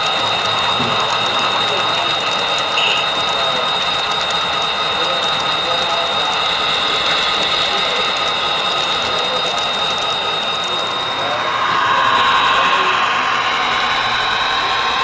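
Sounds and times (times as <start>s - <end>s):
small wheels rattling on rail: 0.0s - 15.0s
steady high whine: 0.0s - 15.0s.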